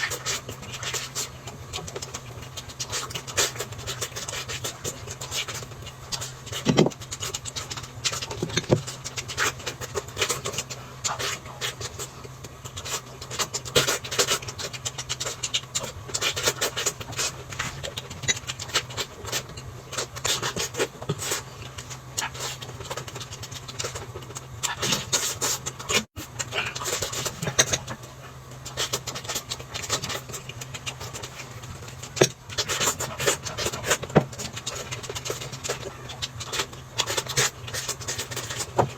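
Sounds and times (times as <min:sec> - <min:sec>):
chewing and lip-smacking: 0:00.0 - 0:38.9.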